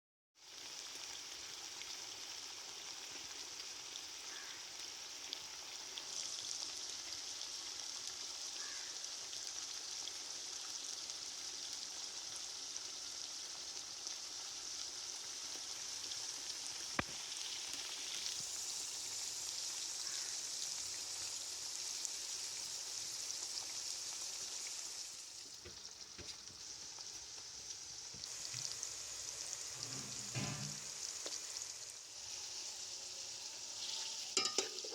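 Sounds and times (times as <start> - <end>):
food sizzling in hot oil: 0.4 - 34.9.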